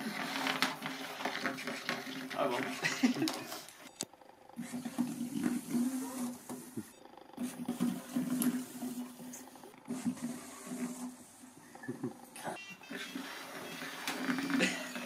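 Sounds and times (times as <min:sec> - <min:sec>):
small electric motors whirring: 0:00.0 - 0:15.0.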